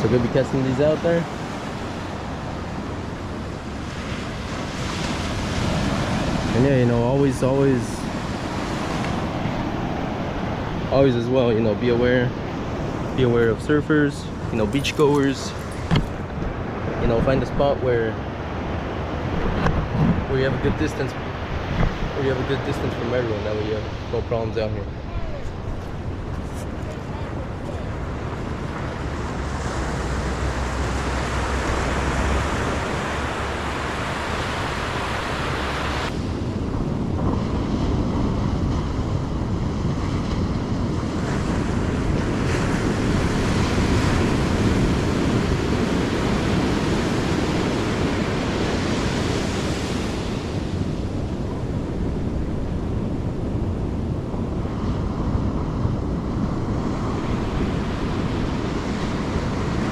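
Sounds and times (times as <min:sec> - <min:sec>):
surf breaking on beach: 0:00.0 - 0:59.9
wind on microphone: 0:00.0 - 0:59.9.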